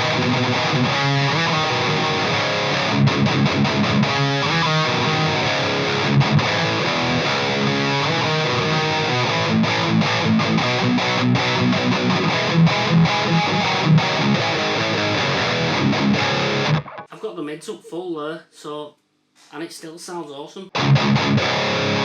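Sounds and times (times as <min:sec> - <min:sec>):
distorted electric guitar chugging: 0:00.0 - 0:17.1, 0:20.7 - 0:22.0.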